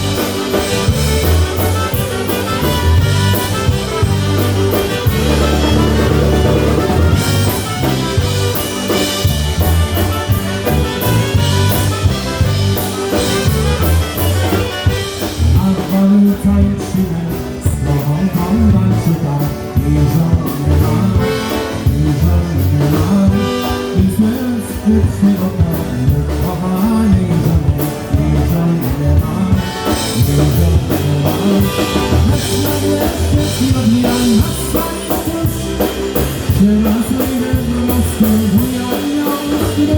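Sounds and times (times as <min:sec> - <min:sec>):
drum kit: 0:00.0 - 0:39.9
polka band playing: 0:00.0 - 0:39.9.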